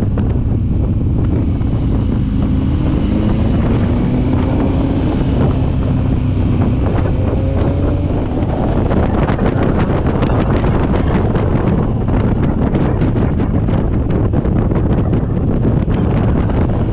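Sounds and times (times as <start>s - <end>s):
motorcycle engine running: 0.0s - 16.9s
wind buffeting microphone: 0.0s - 16.9s.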